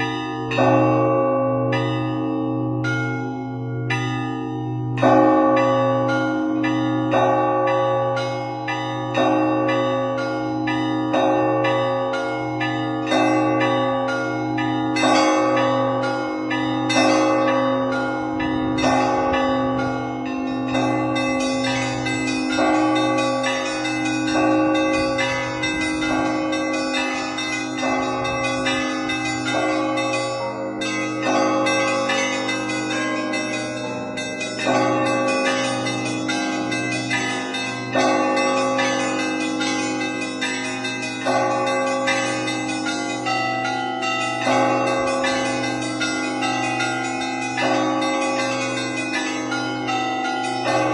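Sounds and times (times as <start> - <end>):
heavy church bell: 0.0 - 50.9
smaller higher bells ringing: 0.0 - 50.9.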